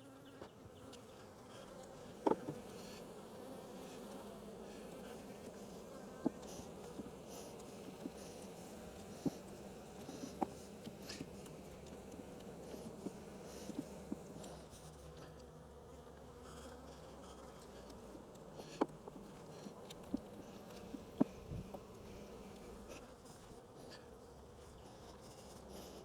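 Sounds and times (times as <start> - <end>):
bees buzzing: 0.0 - 23.4.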